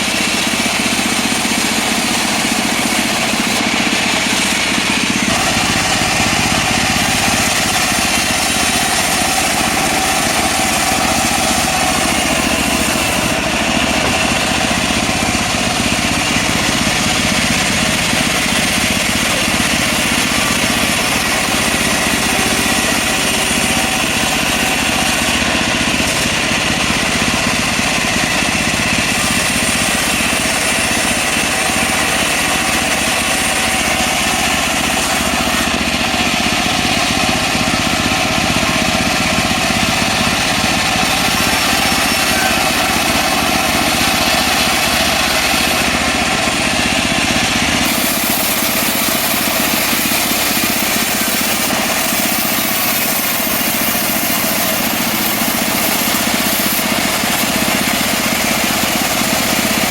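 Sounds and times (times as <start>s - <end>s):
band sawmill engine running: 0.0s - 59.9s.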